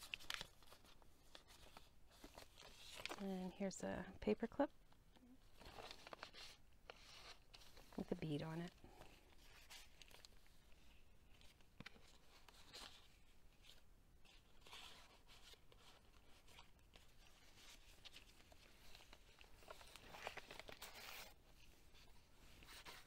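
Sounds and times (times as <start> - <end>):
pages turning: 0.0 - 3.2, 5.5 - 8.0, 9.0 - 10.6, 11.3 - 23.0
paper rustling: 0.0 - 3.2, 5.5 - 8.1, 9.0 - 10.7, 11.3 - 23.0.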